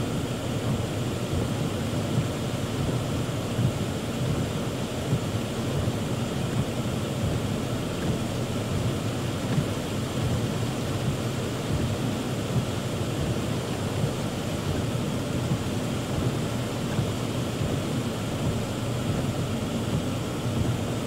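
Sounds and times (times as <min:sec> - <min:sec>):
heavy rain on car: 0:00.0 - 0:21.0.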